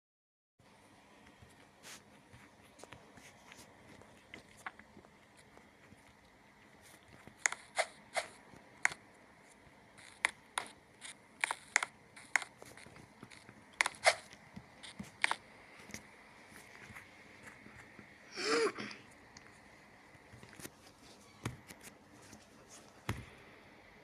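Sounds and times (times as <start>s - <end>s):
faint steady background noise: 0.6s - 24.0s.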